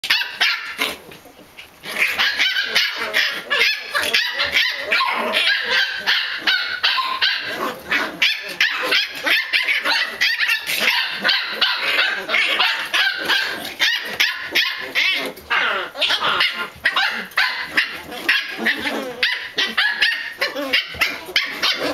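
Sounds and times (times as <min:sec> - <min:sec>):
puppies barking and yipping: 0:00.0 - 0:21.9.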